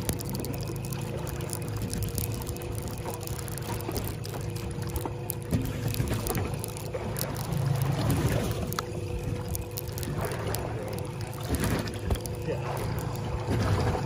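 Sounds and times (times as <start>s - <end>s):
outboard motor humming: 0.0s - 14.0s
water splashing against hull: 0.0s - 14.0s.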